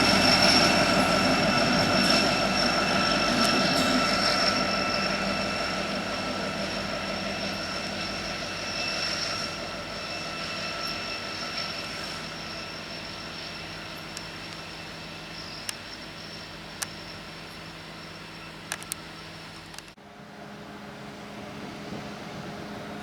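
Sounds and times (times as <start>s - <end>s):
wheels squealing on rails: 0.0s - 19.7s
freight train rolling past: 0.0s - 23.0s.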